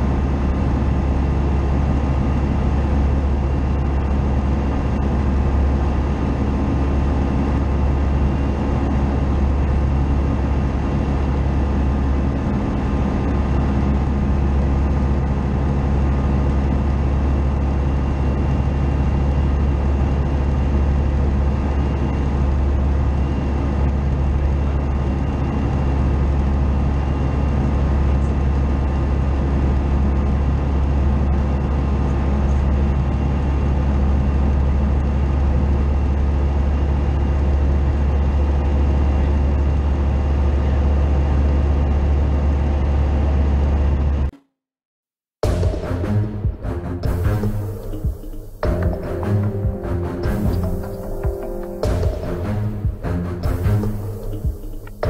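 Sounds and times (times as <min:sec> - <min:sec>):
aircraft engine and propeller droning: 0:00.0 - 0:44.2, 0:45.4 - 0:55.0.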